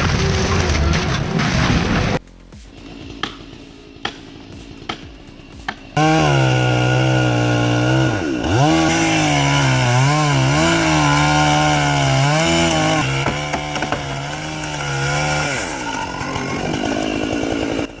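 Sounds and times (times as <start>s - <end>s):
chainsaw cutting: 0.0s - 18.0s.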